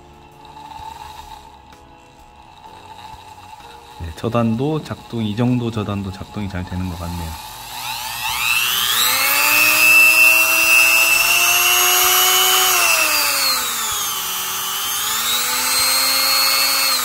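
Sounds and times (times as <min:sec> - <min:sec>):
rotary tool motor whine: 0:00.0 - 0:17.0.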